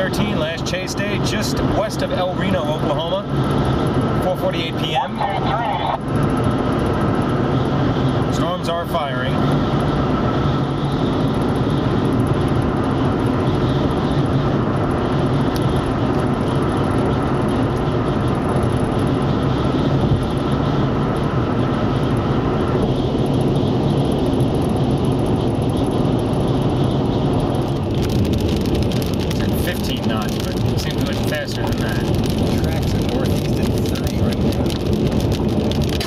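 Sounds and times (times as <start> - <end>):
road noise: 0.0 - 36.0
vehicle engine drone: 0.0 - 36.0.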